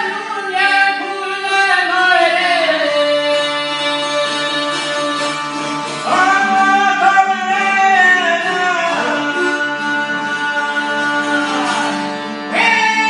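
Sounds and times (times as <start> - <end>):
man singing long held notes: 0.0 - 13.0
plucked lute with drone: 0.0 - 13.0.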